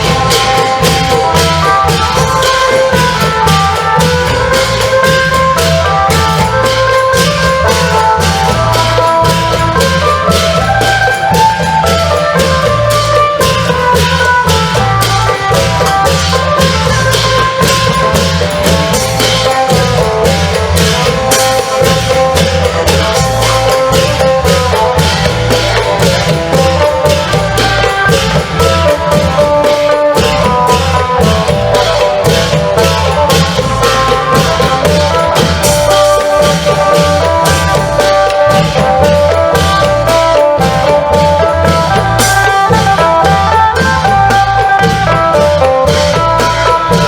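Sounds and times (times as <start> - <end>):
cymbals: 0.0 - 47.0
long drums beating: 0.0 - 47.0.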